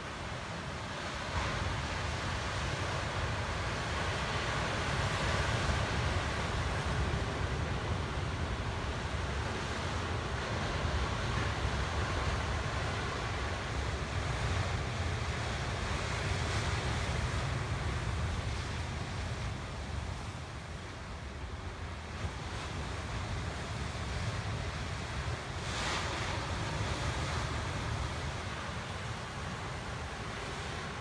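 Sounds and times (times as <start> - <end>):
surf washing over rocks: 0.0 - 31.0.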